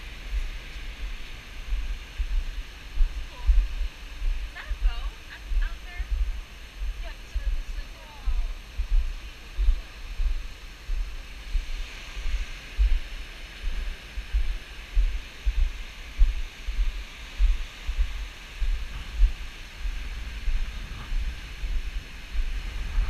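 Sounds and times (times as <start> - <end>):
steady high hiss: 0.0 - 23.0
wind buffeting microphone: 0.0 - 23.0.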